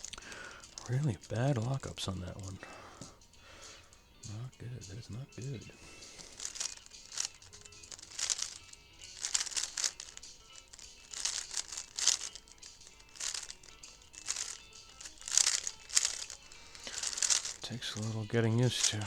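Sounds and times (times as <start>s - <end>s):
plastic puzzle cube clacking: 0.0s - 2.6s, 5.5s - 19.0s
faint background music: 0.0s - 19.0s.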